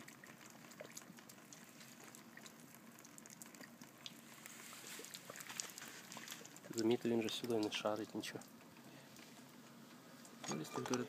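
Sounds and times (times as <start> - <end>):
water boiling and bubbling: 0.0 - 11.0.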